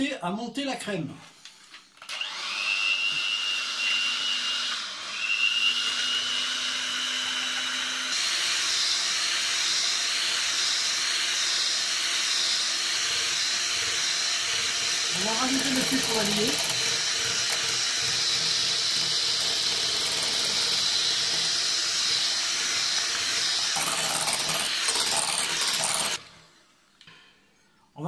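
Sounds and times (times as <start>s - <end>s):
electric hand mixer whining: 2.1s - 26.6s.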